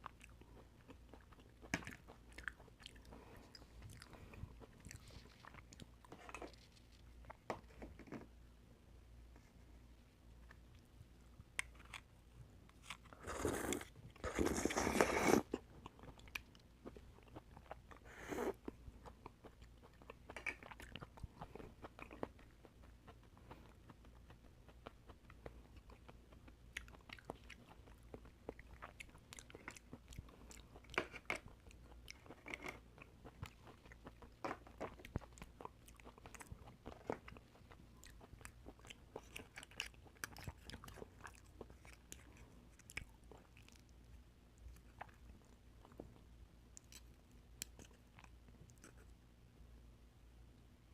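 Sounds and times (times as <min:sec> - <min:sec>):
wet chewing: 0:00.0 - 0:08.2, 0:12.7 - 0:49.1.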